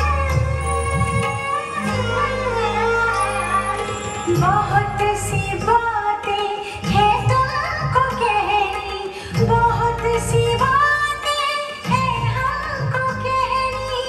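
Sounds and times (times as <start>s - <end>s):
instrumental accompaniment: 0.0s - 14.0s
woman singing: 0.0s - 14.0s.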